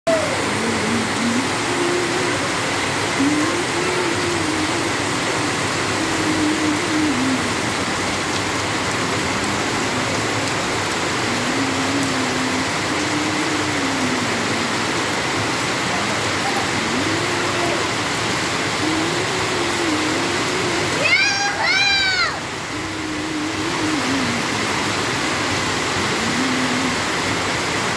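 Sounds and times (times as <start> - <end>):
heavy rain on palm fronds and roof: 0.1 - 27.9.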